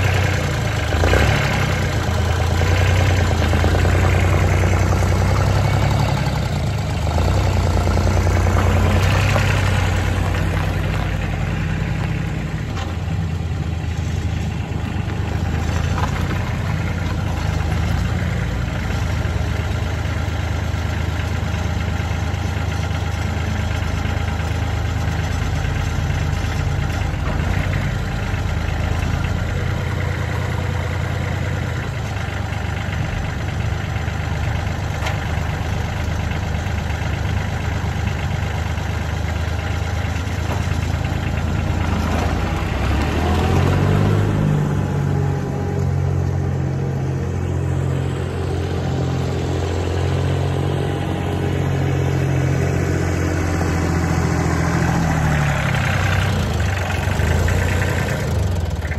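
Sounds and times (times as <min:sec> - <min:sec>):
tractor diesel engine drone: 0:00.0 - 0:58.9.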